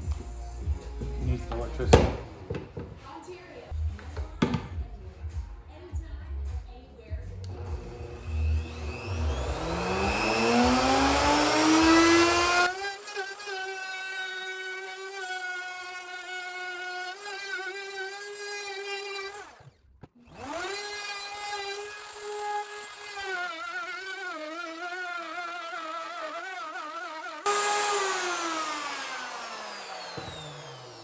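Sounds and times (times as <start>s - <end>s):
router motor spinning down: 0.0s - 2.9s, 7.5s - 31.0s
router whining: 0.0s - 3.1s, 7.4s - 31.0s.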